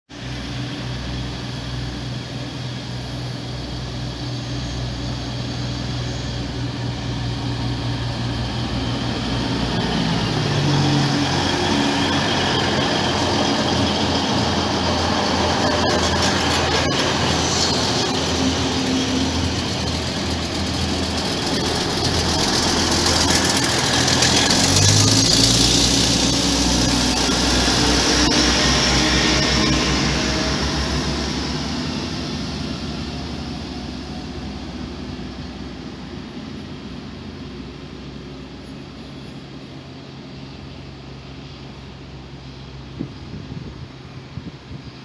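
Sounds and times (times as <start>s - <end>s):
diesel engines droning: 0.1s - 45.0s
train wheels rolling on rails: 0.2s - 45.0s.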